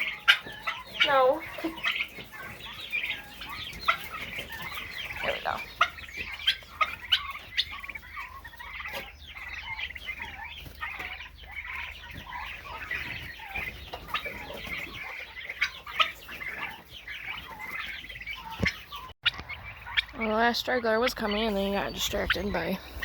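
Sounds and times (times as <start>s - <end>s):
turkeys chirping and clucking: 0.0s - 23.0s.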